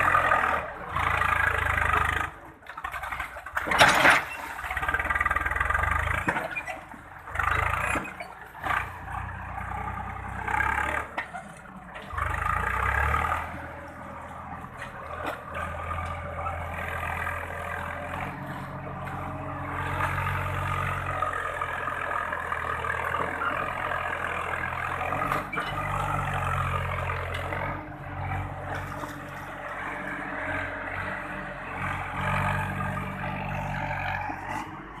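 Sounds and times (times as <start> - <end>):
tractor diesel engine revving: 0.0 - 35.0.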